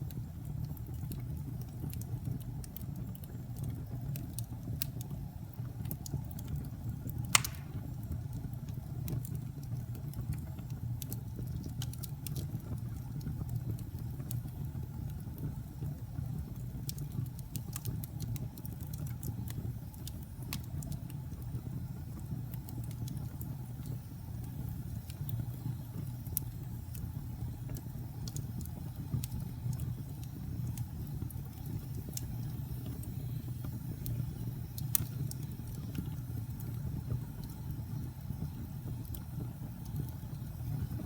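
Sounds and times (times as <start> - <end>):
fire crackling in a fireplace: 0.0 - 41.0.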